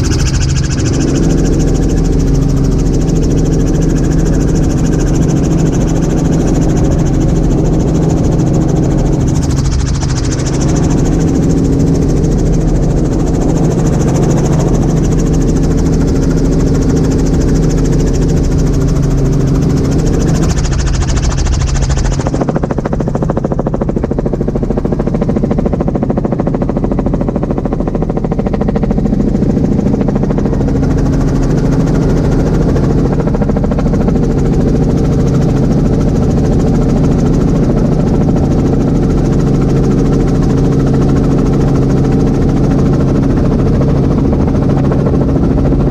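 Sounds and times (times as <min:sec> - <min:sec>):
helicopter engine and rotors droning: 0:00.0 - 0:45.9.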